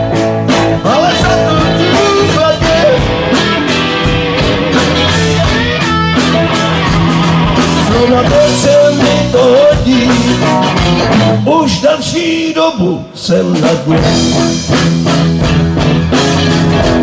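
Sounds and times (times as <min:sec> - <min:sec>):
bass guitar: 0:00.0 - 0:17.0
drums: 0:00.0 - 0:17.0
electric guitars: 0:00.0 - 0:17.0.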